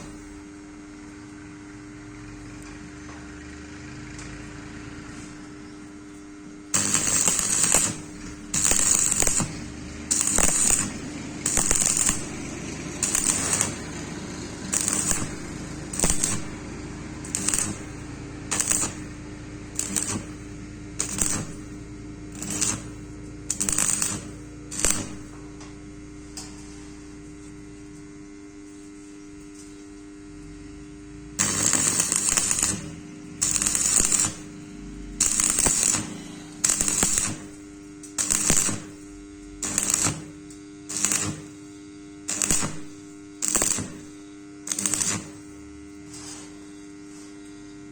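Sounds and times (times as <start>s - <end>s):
electric arc welding crackle: 0.0s - 0.9s, 5.8s - 47.9s
steady electrical hum: 0.0s - 47.9s.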